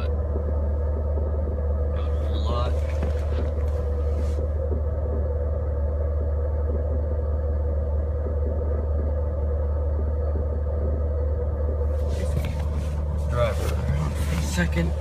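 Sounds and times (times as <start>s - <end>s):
car engine idling: 0.0s - 15.0s
spinning whine: 0.0s - 15.0s.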